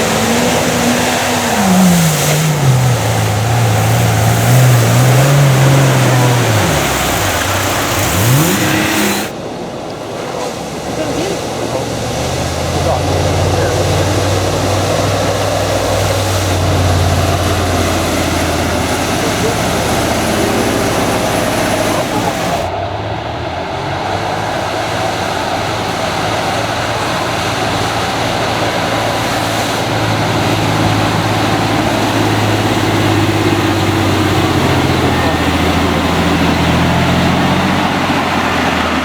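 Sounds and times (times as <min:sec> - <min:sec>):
car engine running at low revs: 0:00.0 - 0:39.0.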